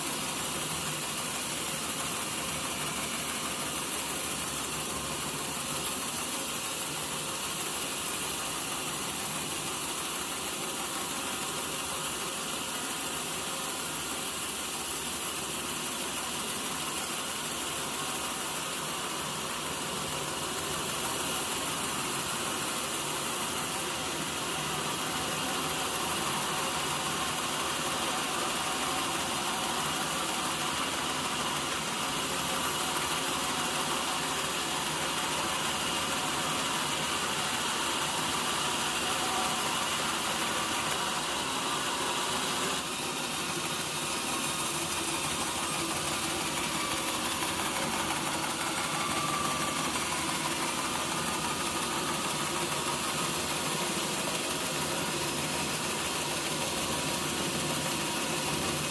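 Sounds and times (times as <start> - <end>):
sawmill machinery running: 0.0 - 58.9.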